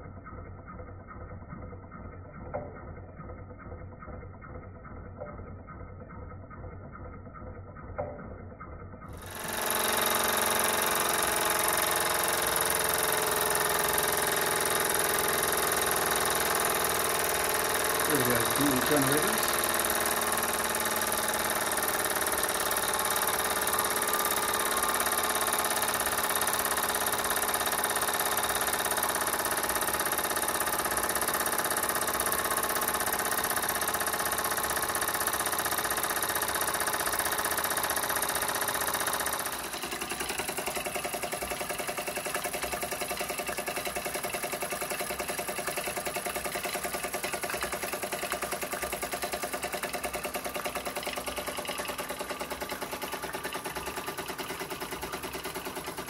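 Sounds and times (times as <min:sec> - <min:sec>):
model steam engine running: 0:09.1 - 0:56.0.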